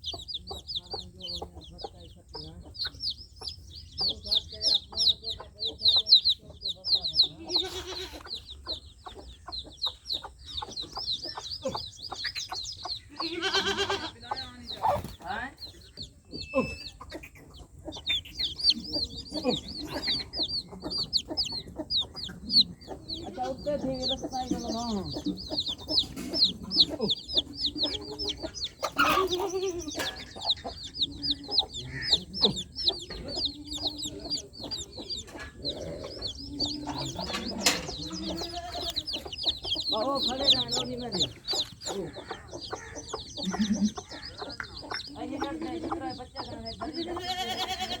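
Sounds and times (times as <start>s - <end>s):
baby chicks peeping: 0.0s - 48.0s
hen clucking: 0.0s - 48.0s.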